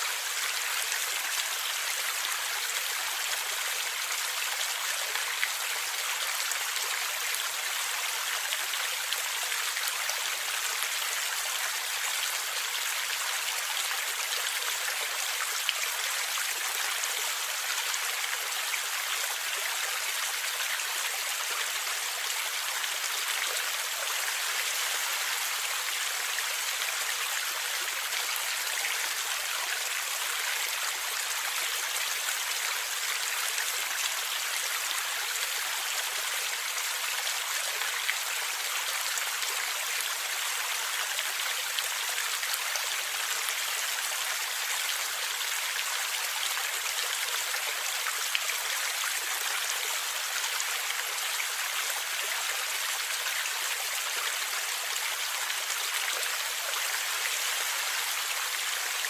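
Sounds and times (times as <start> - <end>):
stream water flowing and gurgling: 0.0 - 59.0.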